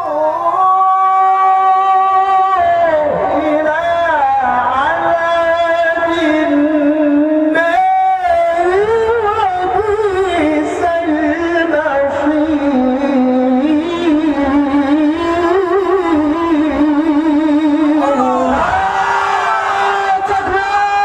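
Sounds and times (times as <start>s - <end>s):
man reciting melodically: 0.0s - 18.8s, 19.7s - 21.0s.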